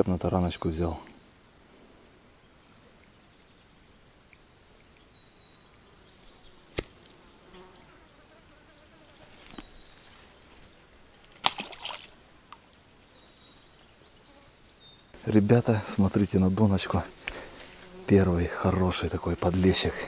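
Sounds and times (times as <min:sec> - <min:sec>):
flying insects buzzing: 0:01.6 - 0:20.0.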